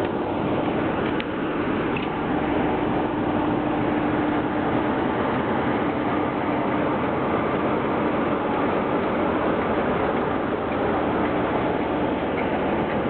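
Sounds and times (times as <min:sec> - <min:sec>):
locomotive idling: 0:00.0 - 0:13.0.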